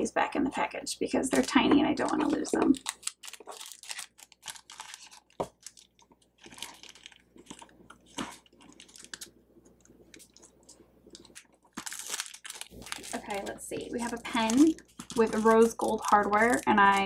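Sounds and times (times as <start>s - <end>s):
plastic sleeve crinkling: 1.3s - 17.0s.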